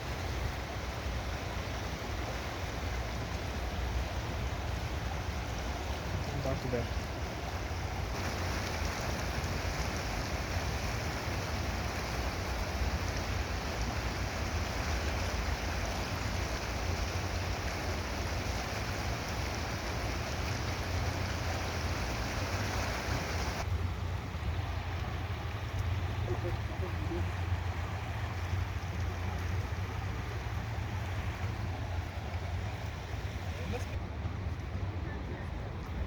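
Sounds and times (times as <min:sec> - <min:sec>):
river water rushing: 0:00.0 - 0:35.3.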